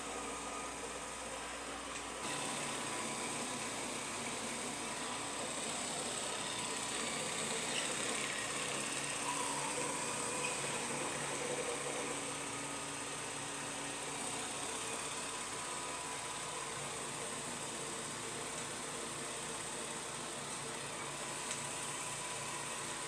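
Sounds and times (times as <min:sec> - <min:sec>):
faint steady whine: 0:00.0 - 0:23.0
robot vacuum motor and fan whir: 0:00.0 - 0:23.0.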